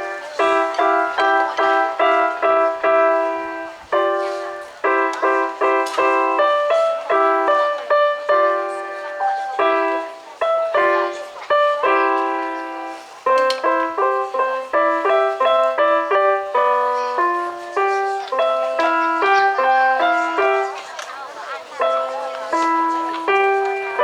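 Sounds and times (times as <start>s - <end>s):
keyboard chords: 0.0s - 24.0s.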